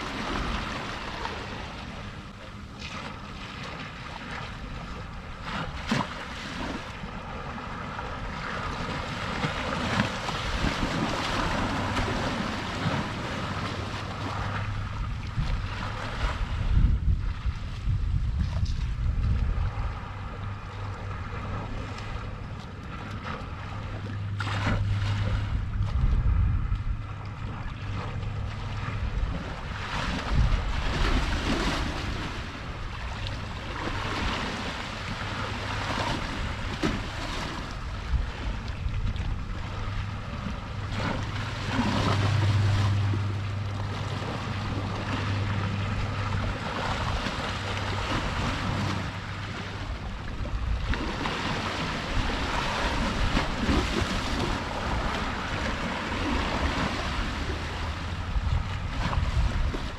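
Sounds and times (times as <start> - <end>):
sea waves washing ashore: 0.0 - 59.9
steady low hum: 0.0 - 59.9
wind buffeting microphone: 3.8 - 59.9.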